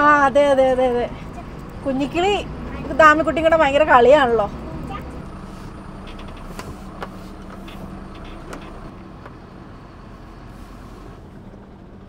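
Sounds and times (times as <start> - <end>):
diesel truck engine humming: 0.0 - 12.0.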